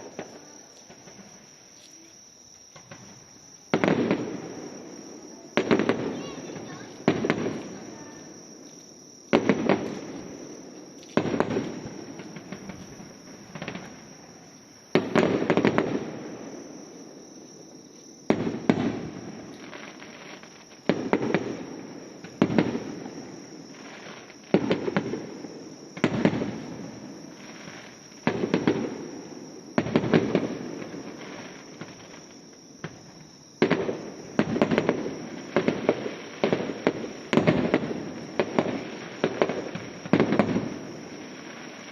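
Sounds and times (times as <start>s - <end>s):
fireworks bursting: 0.0s - 17.2s, 18.2s - 41.9s.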